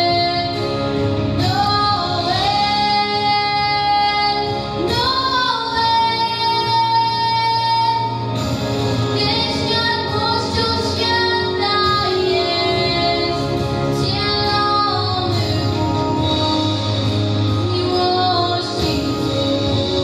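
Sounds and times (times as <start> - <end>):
girl singing into a microphone: 1.4 - 8.3, 9.2 - 20.0.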